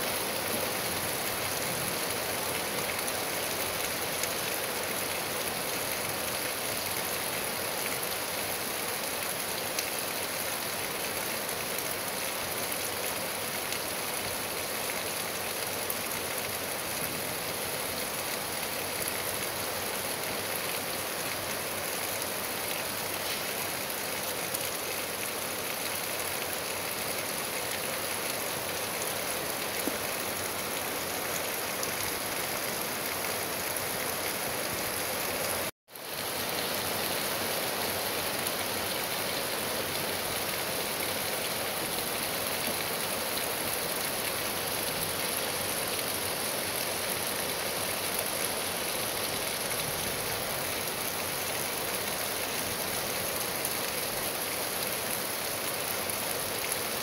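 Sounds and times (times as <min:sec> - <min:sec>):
steady rain on trees and grass: 0:00.0 - 0:57.0.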